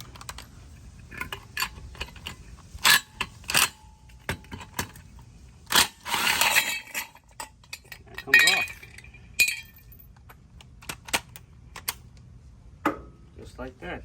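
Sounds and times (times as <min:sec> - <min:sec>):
metal parts clinking and knocking: 0:00.0 - 0:12.0.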